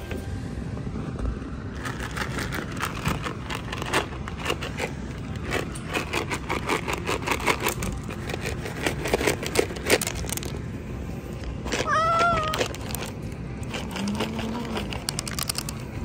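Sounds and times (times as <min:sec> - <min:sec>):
treats rattling in plastic container: 0:01.8 - 0:10.6, 0:11.6 - 0:15.9.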